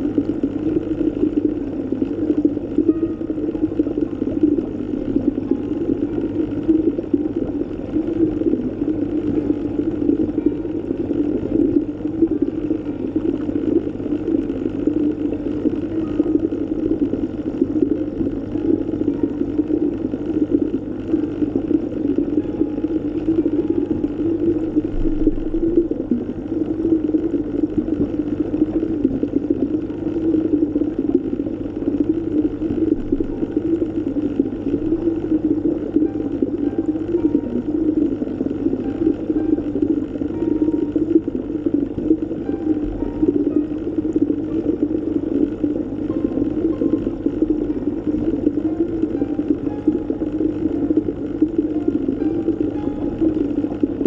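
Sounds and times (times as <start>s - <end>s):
underwater low rumble: 0.0s - 54.0s.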